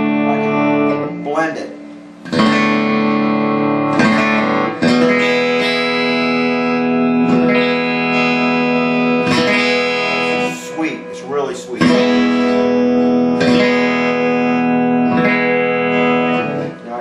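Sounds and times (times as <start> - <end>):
electric guitar chords strummed: 0.0 - 17.0.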